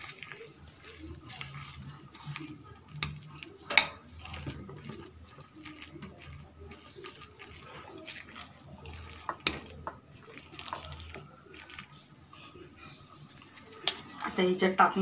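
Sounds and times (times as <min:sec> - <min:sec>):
paste squelching by hand: 0:00.0 - 0:14.4.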